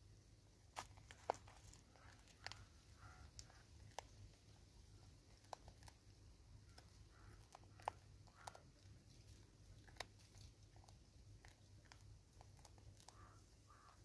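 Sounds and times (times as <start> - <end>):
faint clicks and ticks: 0.8 - 14.0
monkey chewing seeds: 0.8 - 14.0.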